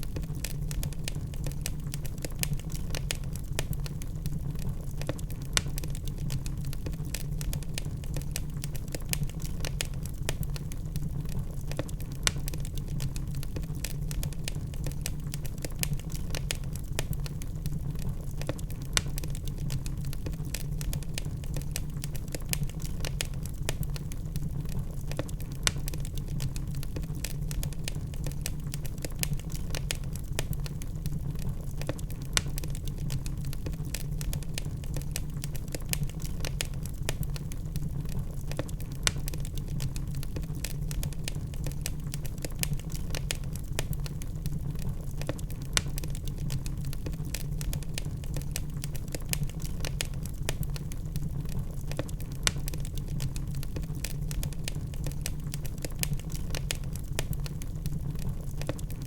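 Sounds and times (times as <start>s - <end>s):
loud fire pops: 0.0s - 59.0s
low fire rumble: 0.0s - 59.0s
wood fire crackling: 0.0s - 59.0s.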